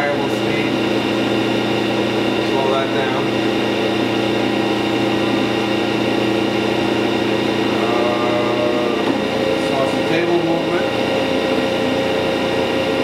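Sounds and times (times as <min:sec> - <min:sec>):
grinding machine humming: 0:00.0 - 0:13.0.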